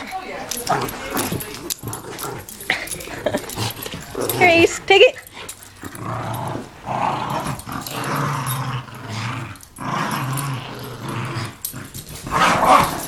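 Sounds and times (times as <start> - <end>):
dog growling: 0.5 - 13.0.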